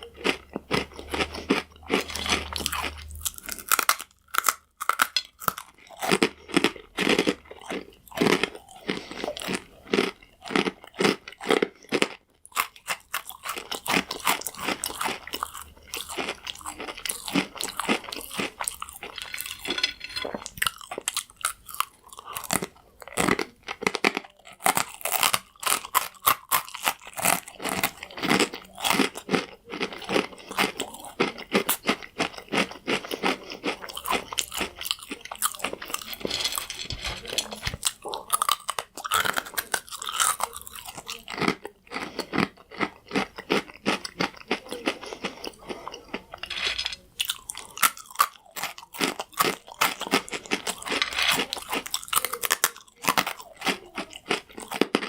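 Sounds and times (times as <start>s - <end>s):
crunchy croutons being chewed: 0.0s - 55.0s.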